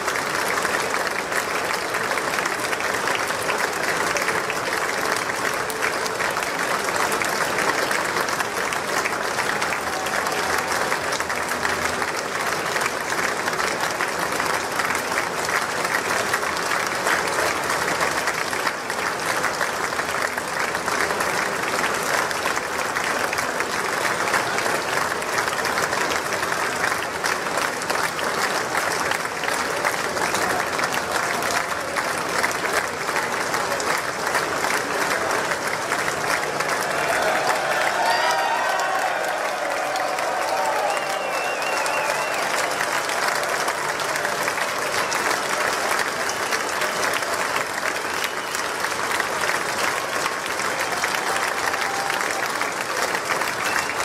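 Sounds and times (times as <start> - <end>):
large audience applauding: 0.0 - 54.0.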